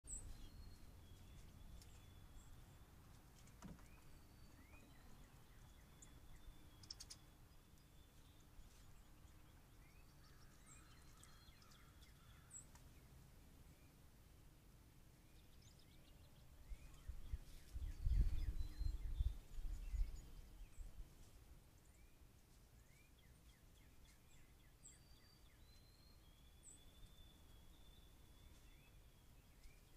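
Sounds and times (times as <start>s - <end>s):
small birds chirping: 0.0s - 14.2s, 15.1s - 29.9s.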